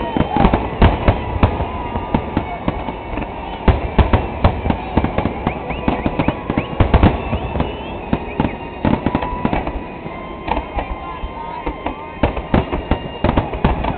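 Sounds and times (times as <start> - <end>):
fireworks bangs and crackling: 0.0 - 13.9
high firework whistles: 0.0 - 13.9.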